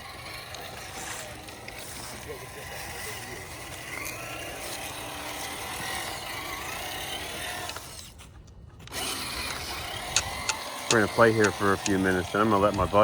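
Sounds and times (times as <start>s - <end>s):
toy car electric motor whirring: 0.0s - 13.0s.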